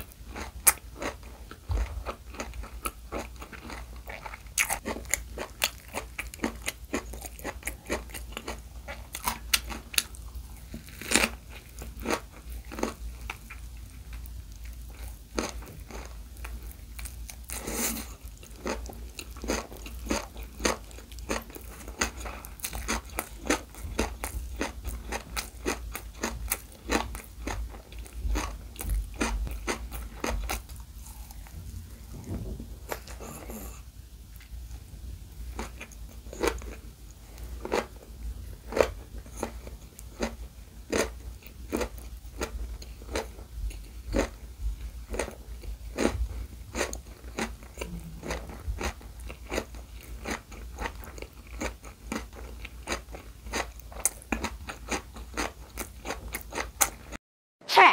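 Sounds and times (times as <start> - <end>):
crunchy chewing: 0.0 - 32.1, 35.5 - 57.2.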